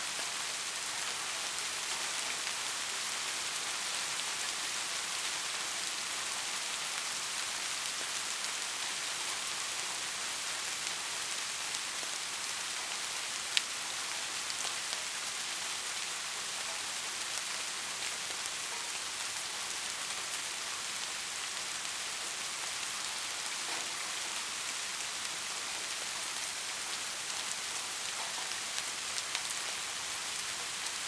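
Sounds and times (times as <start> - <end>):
rain hissing: 0.0 - 31.0.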